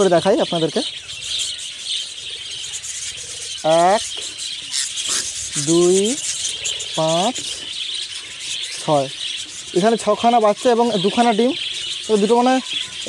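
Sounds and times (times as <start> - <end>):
bird chicks chittering: 0.0 - 13.0.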